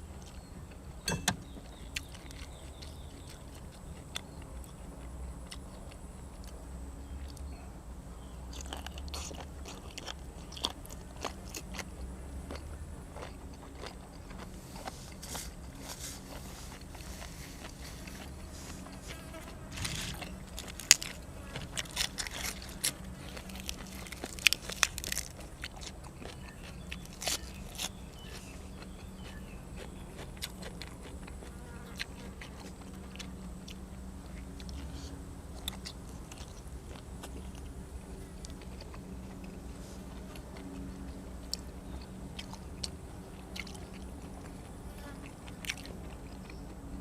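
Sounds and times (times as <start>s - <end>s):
chewing: 0.0s - 47.0s
person crunching food: 0.2s - 6.6s, 8.5s - 46.9s.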